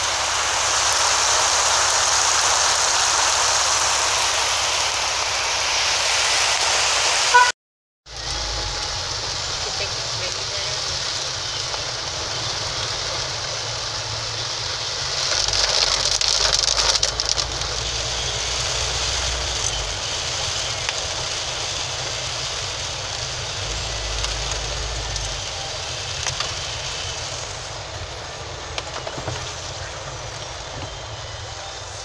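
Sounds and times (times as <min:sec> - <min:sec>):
car engine and road noise: 0:00.0 - 0:07.5, 0:08.1 - 0:32.0
rain on car windshield: 0:00.0 - 0:07.5, 0:08.1 - 0:32.0.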